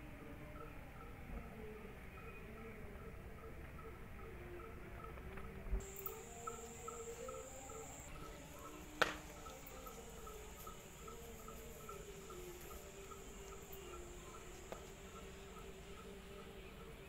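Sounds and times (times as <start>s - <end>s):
insects chirping: 0.2s - 17.0s.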